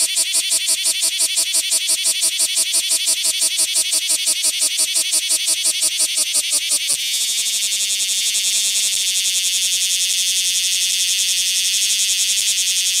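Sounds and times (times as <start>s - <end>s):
cicada buzzing: 0.0s - 13.0s.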